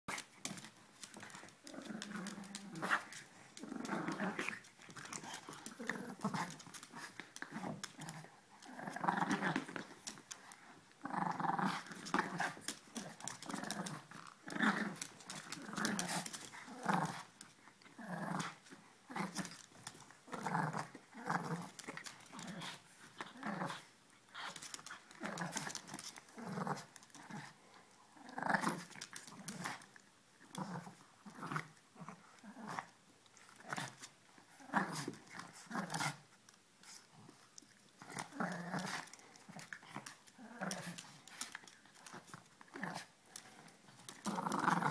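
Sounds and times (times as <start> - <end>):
dogs play-growling: 0.1 - 44.9.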